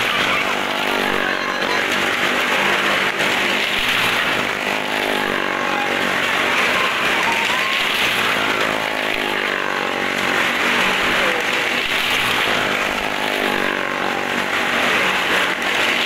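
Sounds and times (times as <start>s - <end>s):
motorcycle and car engines revving: 0.0s - 16.0s.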